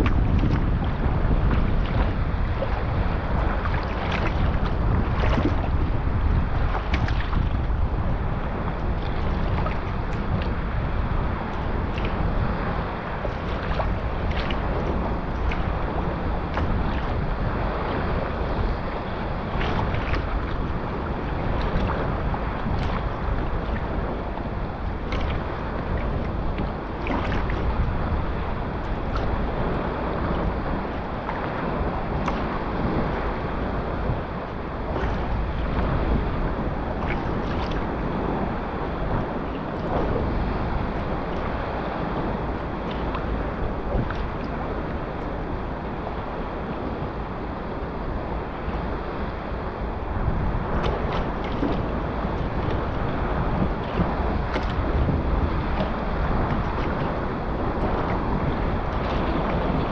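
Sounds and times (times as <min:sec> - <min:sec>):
water rushing and slapping: 0:00.0 - 0:59.9
wind buffeting microphone: 0:00.0 - 0:59.9.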